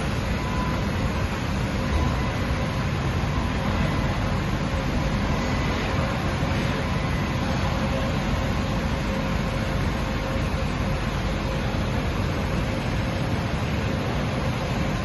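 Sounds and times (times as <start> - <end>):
faint high whine: 0.0 - 15.0
machining centre hum and hiss: 0.0 - 15.0.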